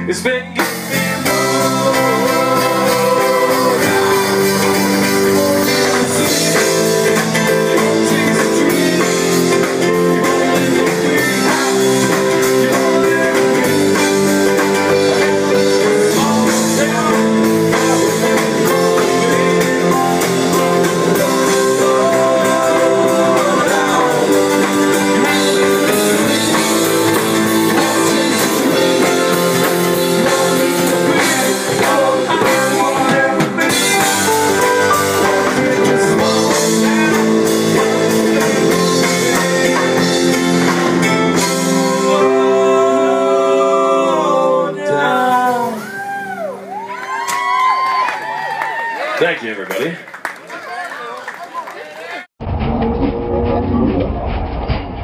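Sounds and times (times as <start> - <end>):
live band playing amplified music: 0.0 - 48.9.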